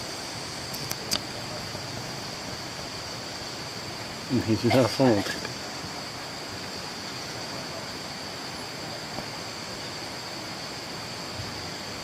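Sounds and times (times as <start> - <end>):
even hiss: 0.0 - 12.0
high insect drone: 0.0 - 12.0.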